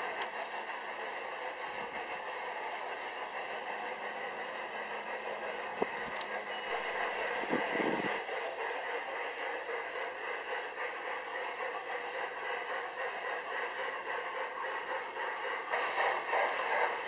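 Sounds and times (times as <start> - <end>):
model train rolling hiss: 0.0 - 17.0.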